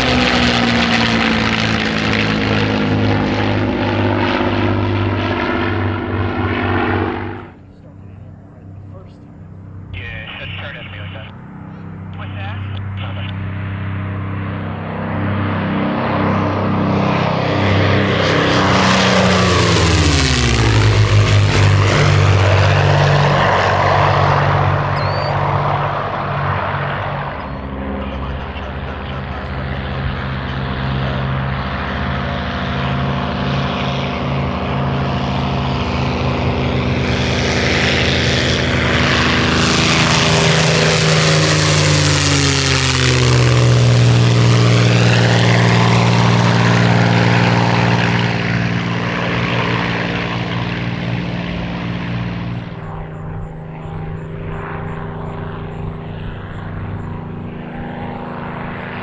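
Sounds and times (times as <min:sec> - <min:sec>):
propeller plane engine flyby: 0:00.0 - 0:59.0.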